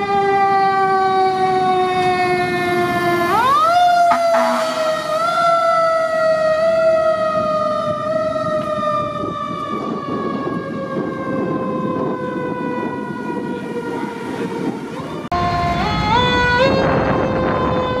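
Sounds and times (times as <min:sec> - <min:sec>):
engine and road noise: 0:00.0 - 0:18.0
fire engine siren wailing: 0:00.0 - 0:18.0.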